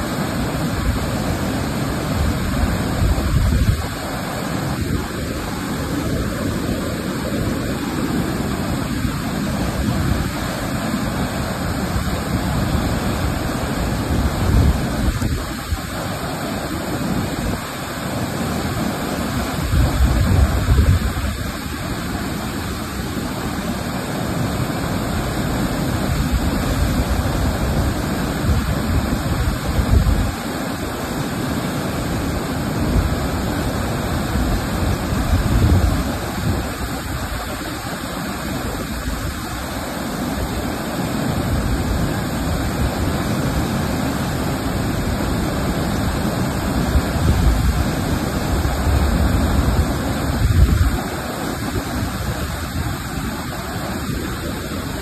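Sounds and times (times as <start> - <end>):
waterfall rushing: 0.0 - 55.0
wind gusts on microphone: 0.0 - 55.0.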